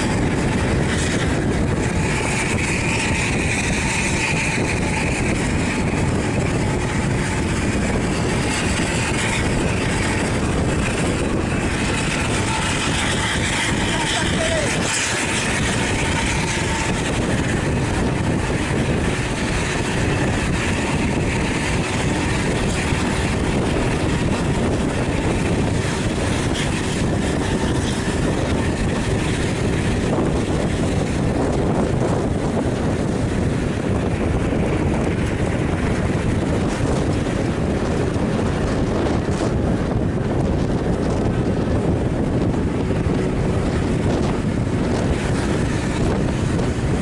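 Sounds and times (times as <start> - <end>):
vehicle road noise: 0.0 - 47.0
wind rushing over microphone: 0.0 - 47.0.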